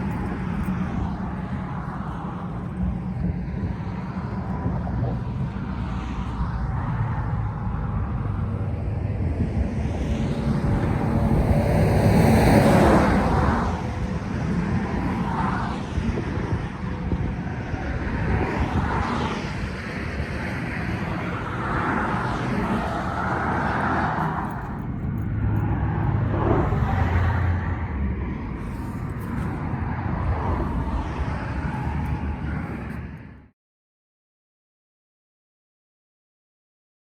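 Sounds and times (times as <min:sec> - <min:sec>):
vehicles passing: 0:00.0 - 0:33.5.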